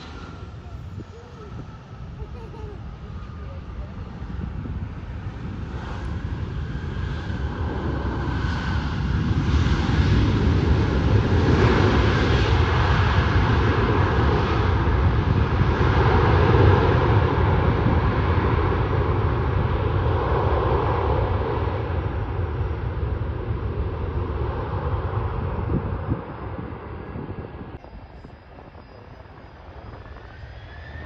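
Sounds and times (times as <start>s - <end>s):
airliner engines rumbling: 0.0s - 31.0s.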